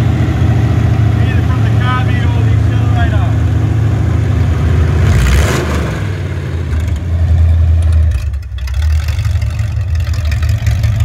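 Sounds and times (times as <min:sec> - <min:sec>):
engine rumbling through open headers: 0:00.0 - 0:11.0.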